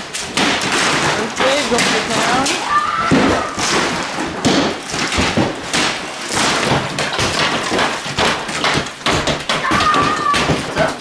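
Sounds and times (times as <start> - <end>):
hammers hitting plaster walls: 0.0 - 11.0.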